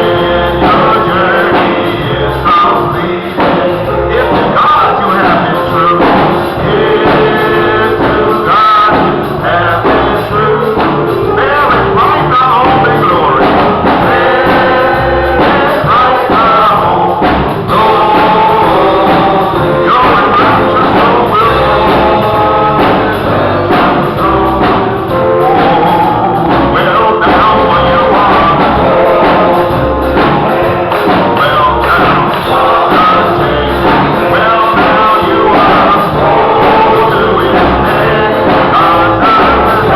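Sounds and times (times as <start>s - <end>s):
instrumental accompaniment with bass: 0.0s - 39.9s
voices singing gospel: 0.0s - 39.9s.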